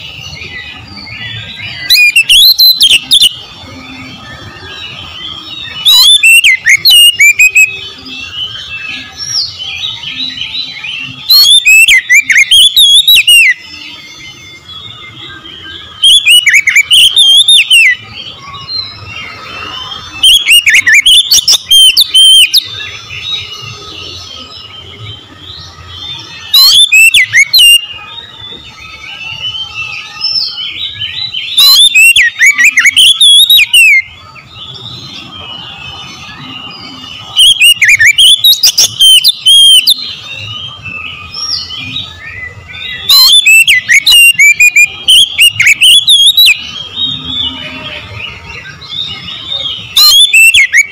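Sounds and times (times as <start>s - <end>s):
bird singing whistled phrases: 0.0s - 50.9s.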